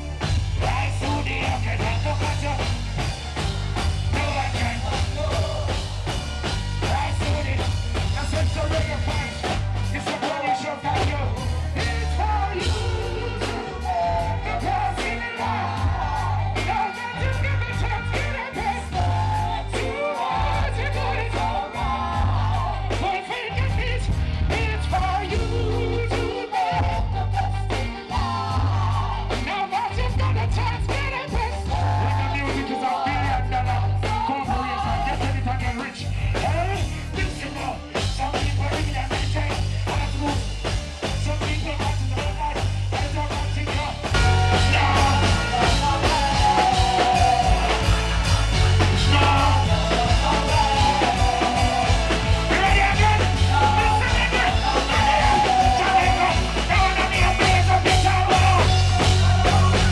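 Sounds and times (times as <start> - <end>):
backing singers: 0.0 - 59.9
heavy bass: 0.0 - 59.9
live reggae band: 0.0 - 59.9
person singing lead vocal: 0.0 - 59.9.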